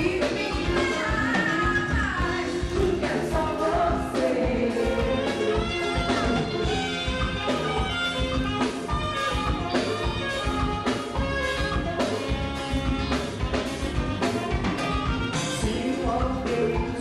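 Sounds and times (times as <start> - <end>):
drum kit steady beat: 0.0 - 17.0
saxophone lead line: 0.0 - 17.0.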